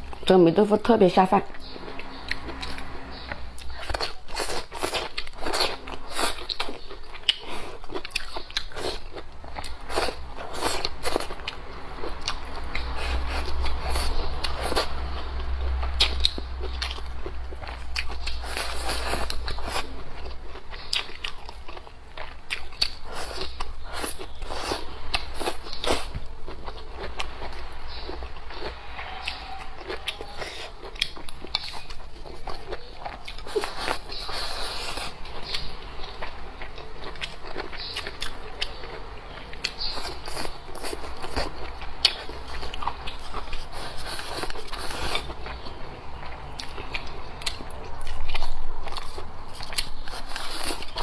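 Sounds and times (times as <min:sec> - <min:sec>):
close chewing and mouth sounds: 0:00.0 - 0:51.0.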